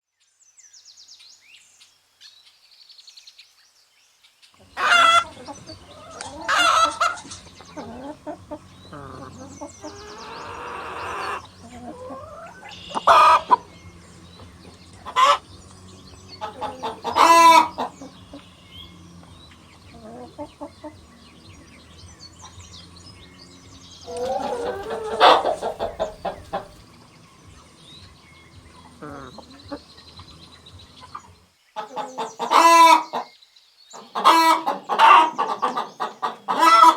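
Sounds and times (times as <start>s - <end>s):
chickens clucking and squawking: 4.6s - 27.8s, 28.4s - 36.9s.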